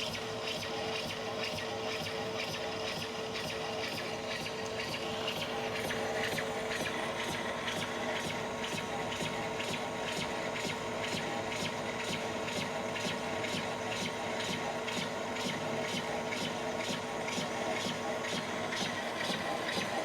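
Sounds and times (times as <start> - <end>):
lathe machine hum: 0.1 - 20.0.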